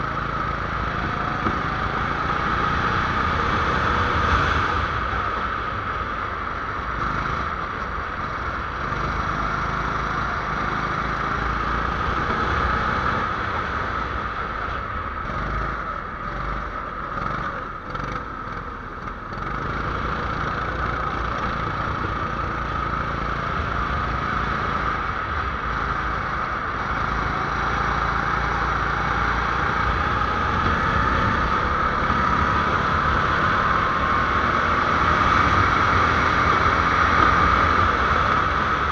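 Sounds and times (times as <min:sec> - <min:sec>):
road noise: 0:00.0 - 0:38.9
rushing wind: 0:00.0 - 0:38.9
small engine running hard: 0:00.0 - 0:38.9.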